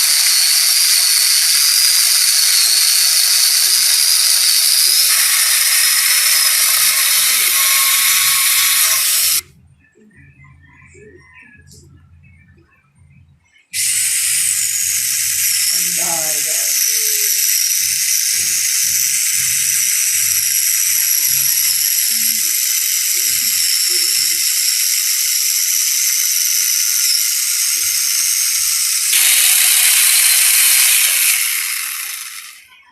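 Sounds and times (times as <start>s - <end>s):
chainsaw attachment whining: 0.0s - 9.5s, 13.8s - 32.8s.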